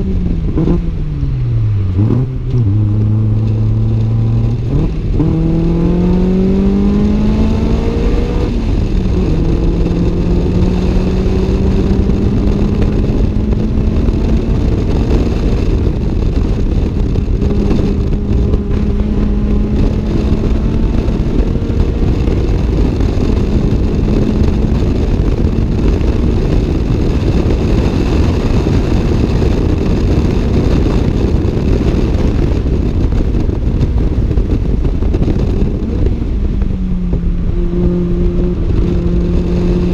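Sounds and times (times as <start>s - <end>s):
car engine revving: 0.0s - 39.9s
wind and road noise: 0.0s - 39.9s.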